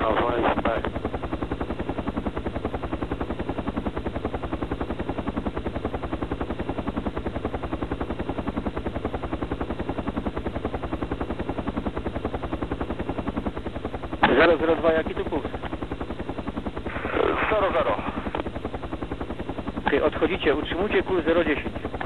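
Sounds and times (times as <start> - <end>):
helicopter rotor beating: 0.0 - 22.0.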